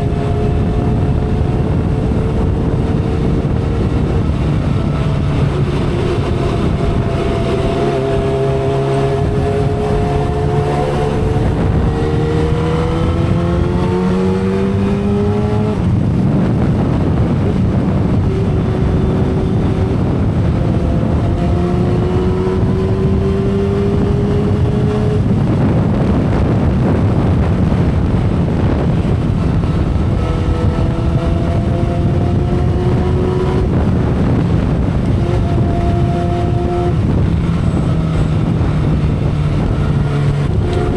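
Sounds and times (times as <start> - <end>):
motorcycle engine at speed: 0.0 - 40.9
wind rush: 0.0 - 40.9.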